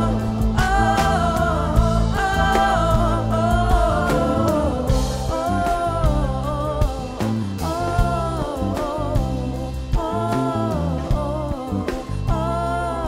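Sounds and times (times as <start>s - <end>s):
backing singers in harmony: 0.0s - 13.0s
bass notes: 0.0s - 13.0s
drums and cymbals: 0.0s - 13.0s
woman singing lead vocal: 0.0s - 13.0s.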